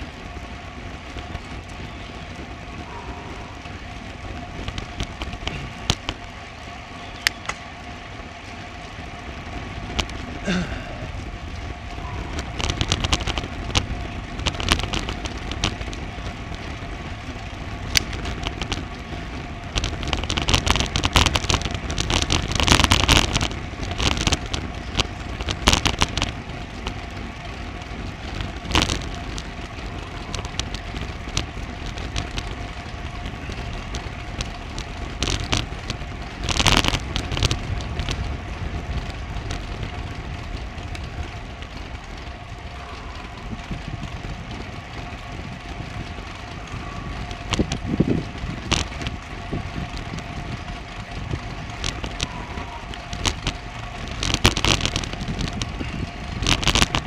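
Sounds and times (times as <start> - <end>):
crackling knocks from road vibration: 0.0 - 57.0
faint steady whine: 0.0 - 57.0
road rumble: 0.0 - 57.0
wind buffeting microphone: 0.0 - 57.0.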